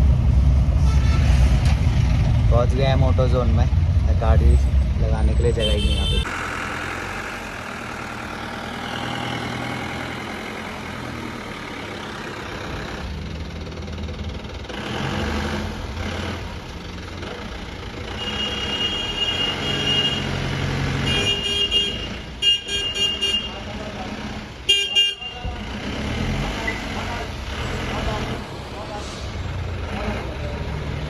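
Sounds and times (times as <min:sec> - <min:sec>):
road traffic engines: 0:00.0 - 0:31.0.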